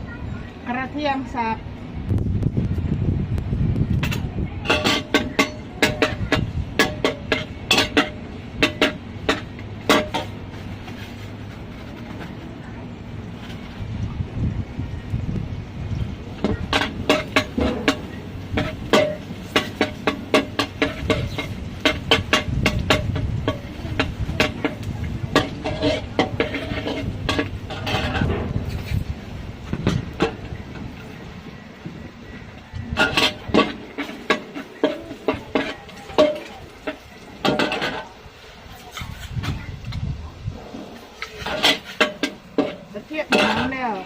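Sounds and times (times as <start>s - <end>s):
steady low rumble: 0.0s - 43.5s
metal utensil clanking on pan: 4.0s - 12.4s, 16.3s - 40.0s, 40.8s - 44.0s.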